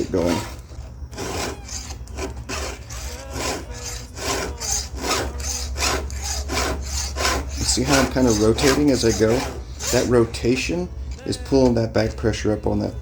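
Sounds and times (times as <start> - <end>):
file rasping on chainsaw chain: 0.0 - 11.4.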